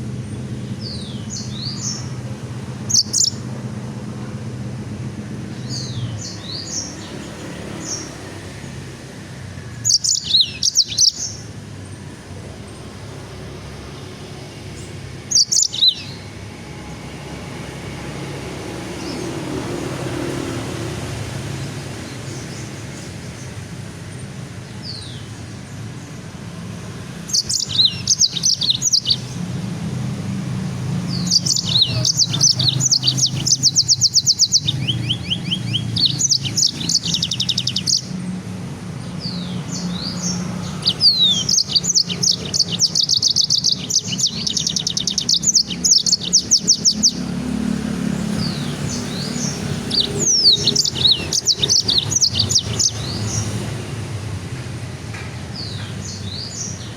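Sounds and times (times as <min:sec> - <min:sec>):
songbird chirps and trills: 0:00.0 - 0:56.9.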